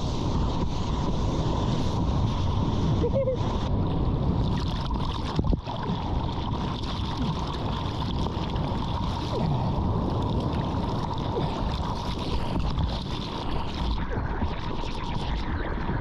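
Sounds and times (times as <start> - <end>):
sea water sloshing and rushing: 0.0 - 16.0.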